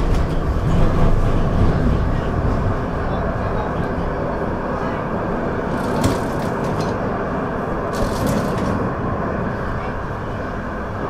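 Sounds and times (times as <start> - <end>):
tram rumbling on rails: 0.0 - 11.0.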